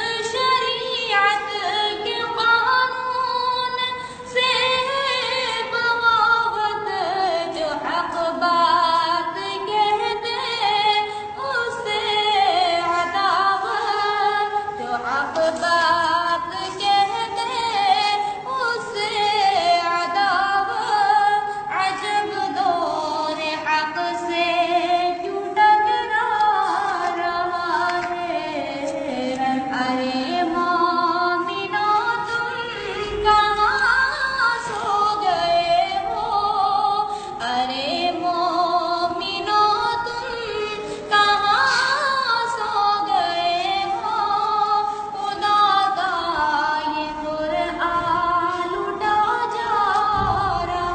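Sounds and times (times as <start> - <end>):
person singing devotional song: 0.0 - 50.9.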